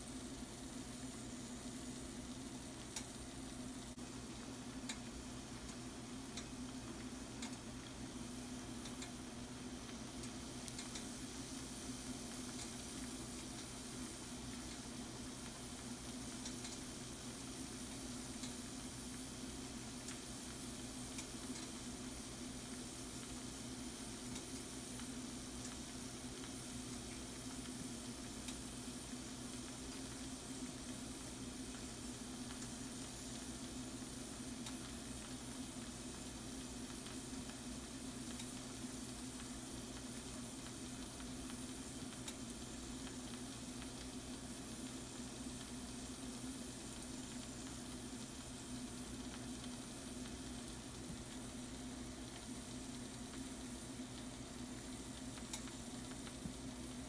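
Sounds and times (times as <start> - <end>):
shrimp sizzling in a frying pan: 0.0 - 57.0.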